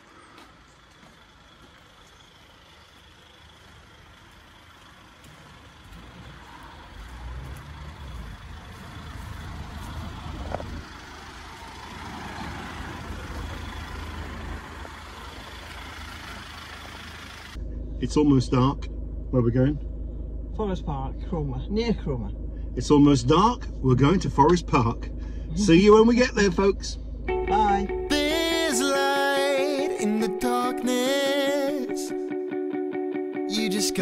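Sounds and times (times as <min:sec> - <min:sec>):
car engine idling: 0:00.0 - 0:32.1.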